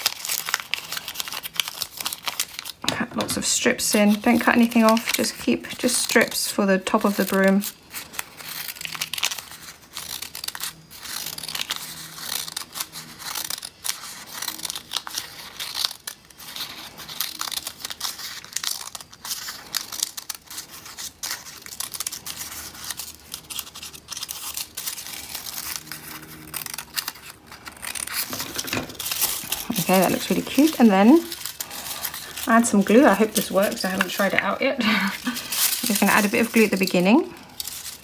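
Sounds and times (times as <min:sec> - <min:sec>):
paper rustling: 0:00.0 - 0:38.0
scissors snipping paper: 0:00.0 - 0:38.0.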